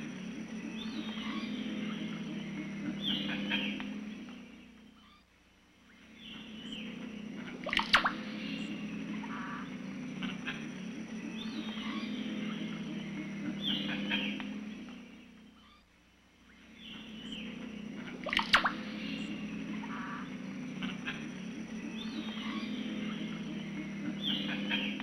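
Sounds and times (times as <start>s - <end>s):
birds chirping and calling: 0.0s - 25.0s
low steady drone: 0.0s - 25.0s.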